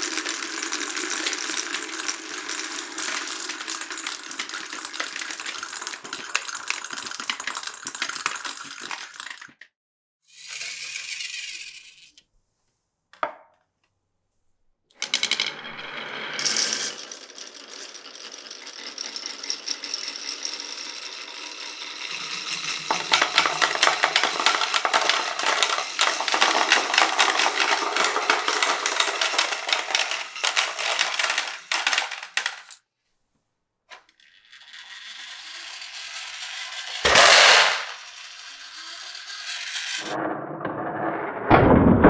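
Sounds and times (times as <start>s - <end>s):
marbles rattling through wooden run: 0.0s - 9.6s, 10.4s - 12.1s, 15.0s - 32.8s, 33.9s - 40.2s.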